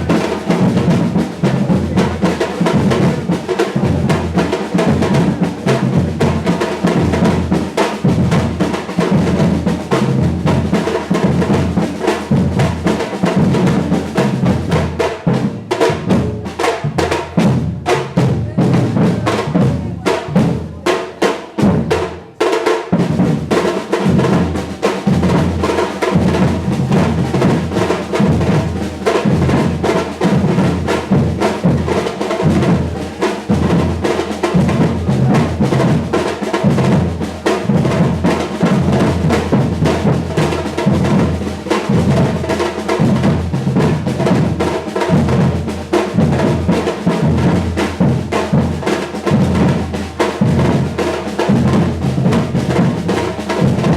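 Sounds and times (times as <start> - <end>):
drum ensemble playing: 0.0 - 53.9.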